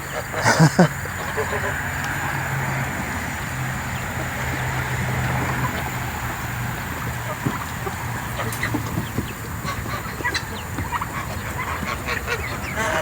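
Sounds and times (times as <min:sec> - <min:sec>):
poultry clucking: 0:00.0 - 0:13.0.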